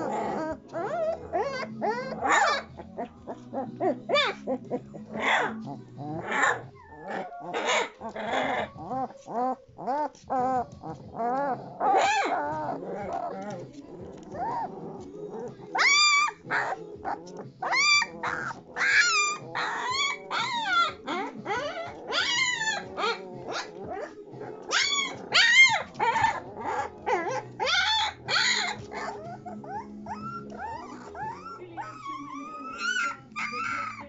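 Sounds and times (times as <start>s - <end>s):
puppies whining and squealing: 0.0s - 34.0s.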